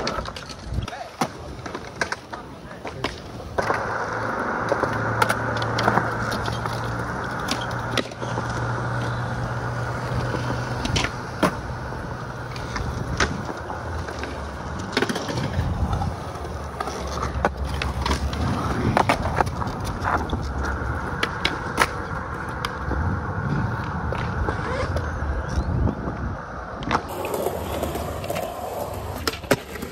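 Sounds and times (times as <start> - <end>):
skateboard wooden clacks: 0.0 - 25.1
skateboard wheels rolling on concrete: 0.0 - 29.9.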